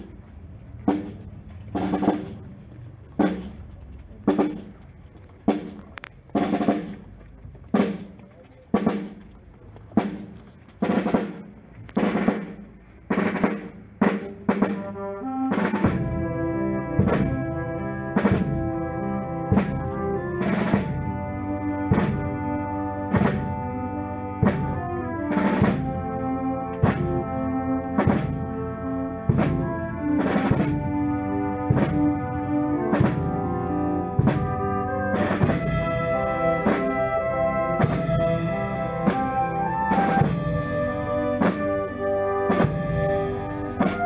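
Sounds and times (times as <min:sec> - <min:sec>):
slow drum beat: 0:00.0 - 0:04.8, 0:05.5 - 0:07.1, 0:10.0 - 0:23.8, 0:24.4 - 0:44.0
band playing slow march: 0:00.0 - 0:44.0.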